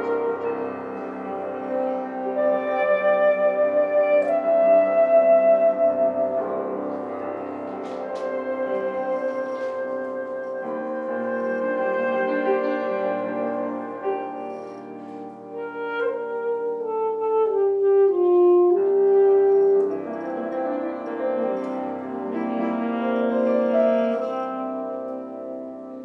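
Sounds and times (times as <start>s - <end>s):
piano chords: 0.0s - 26.0s
saxophone melody: 0.0s - 26.0s.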